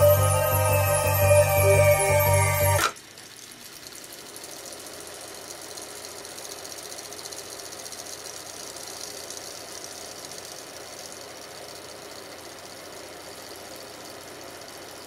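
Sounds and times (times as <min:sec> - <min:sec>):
tape recorder reels whirring: 0:00.0 - 0:15.0
fast fine rattle: 0:02.8 - 0:15.0.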